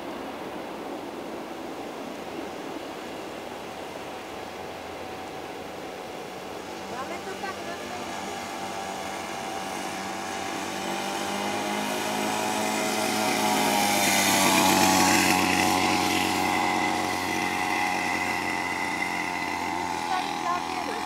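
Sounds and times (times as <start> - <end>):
small quad bike engine passing: 1.6 - 21.0.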